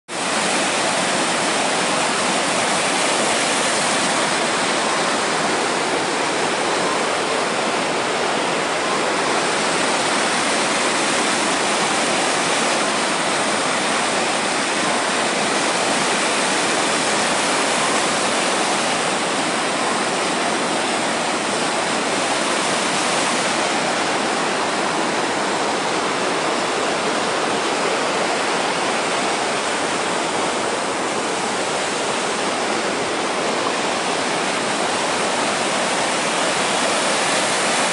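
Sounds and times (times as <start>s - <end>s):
mountain stream rushing: 0.1s - 37.9s.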